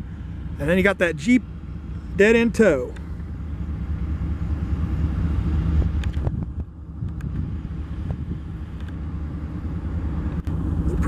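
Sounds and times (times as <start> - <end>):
diesel locomotives rumbling: 0.0 - 11.0.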